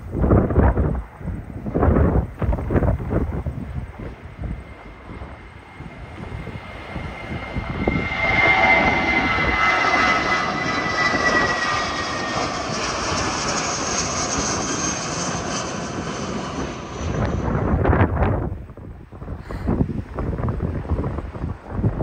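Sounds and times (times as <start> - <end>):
jet engines passing with whine: 0.0 - 22.0.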